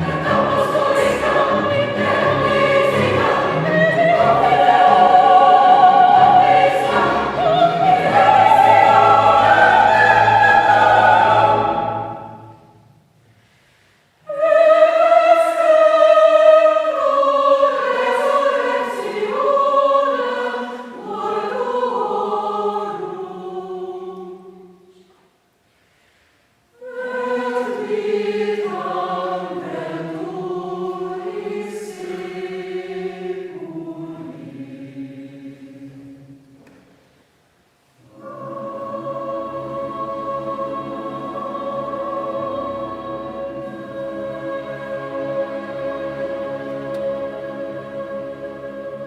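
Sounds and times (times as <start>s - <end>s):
mixed choir singing: 0.0s - 12.9s, 14.2s - 24.9s, 26.8s - 36.6s, 38.0s - 49.0s.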